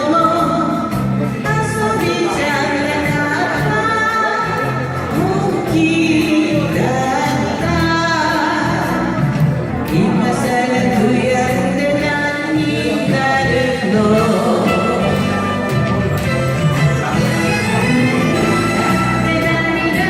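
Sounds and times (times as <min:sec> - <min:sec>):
woman singing a ballad: 0:00.0 - 0:15.5, 0:18.9 - 0:20.0
backing track: 0:00.0 - 0:20.0.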